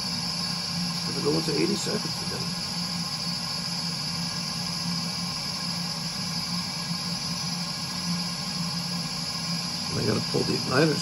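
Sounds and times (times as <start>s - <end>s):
boiler blower humming and hissing: 0.0s - 11.0s.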